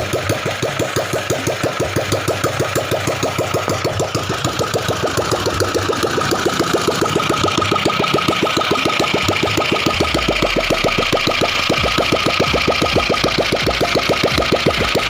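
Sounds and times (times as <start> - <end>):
engine chugging: 0.0 - 15.0.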